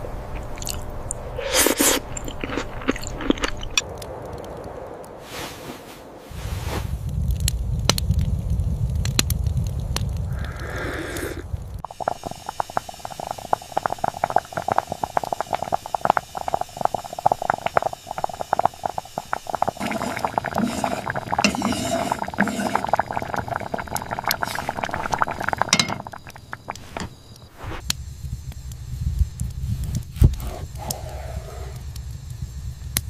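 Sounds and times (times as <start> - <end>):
food crackling and bubbling in a pan: 0.3 - 4.0, 7.1 - 33.0.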